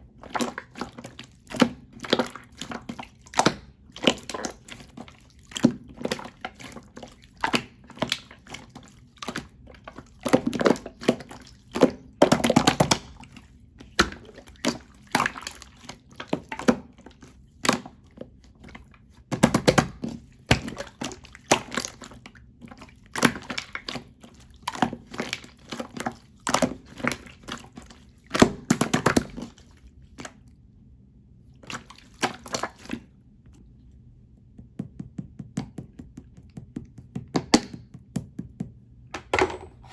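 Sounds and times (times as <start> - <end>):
slime squelching: 0.0 - 38.9.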